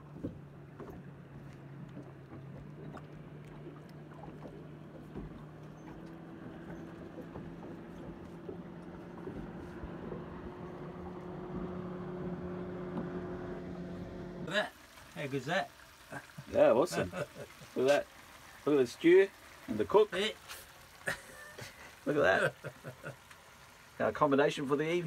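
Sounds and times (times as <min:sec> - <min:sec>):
faint water wash: 0:00.0 - 0:25.0
outboard motor humming: 0:00.0 - 0:25.0.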